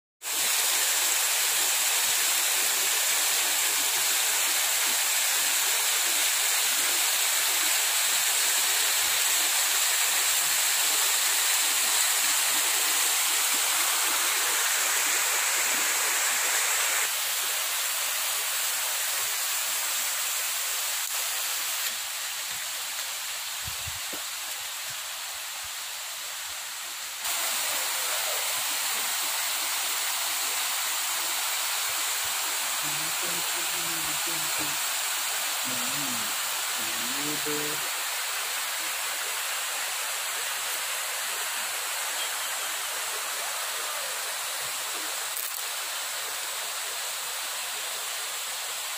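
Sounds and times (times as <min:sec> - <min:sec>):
waterfall spilling over rocks: 0:00.2 - 0:48.9.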